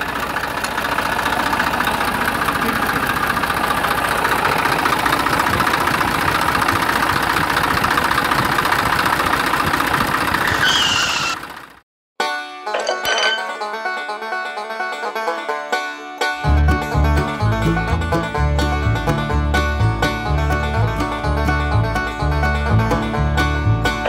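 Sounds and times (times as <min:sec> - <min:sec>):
tractor engine chugging: 0:00.0 - 0:11.8, 0:16.4 - 0:24.0.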